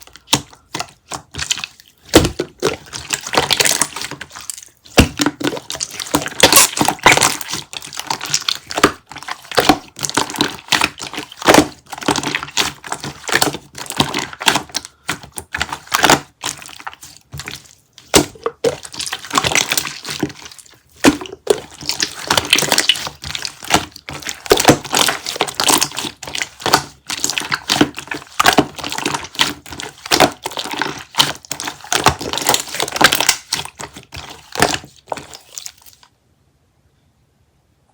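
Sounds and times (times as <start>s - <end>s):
hard jelly crunching: 0.0s - 36.1s.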